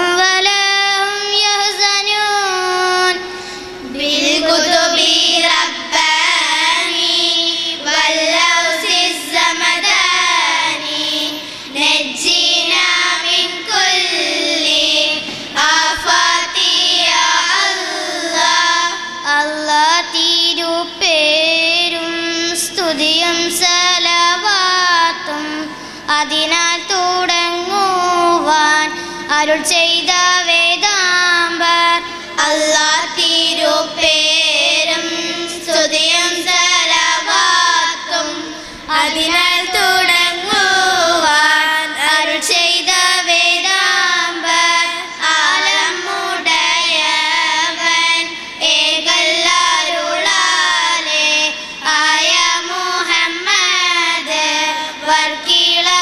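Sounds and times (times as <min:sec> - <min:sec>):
girls singing into microphones: 0:00.0 - 0:56.0.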